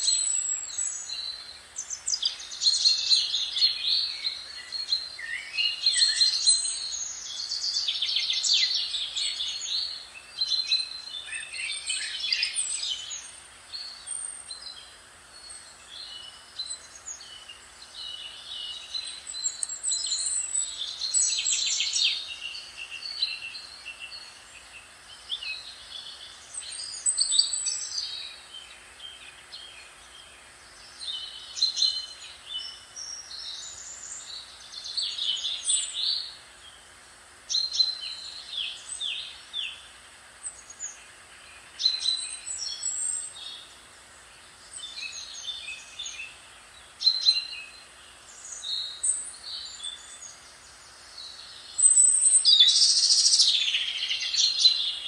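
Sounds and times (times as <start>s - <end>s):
faint steady hiss: 0.0s - 55.0s
songbirds chirping and trilling: 0.0s - 55.0s.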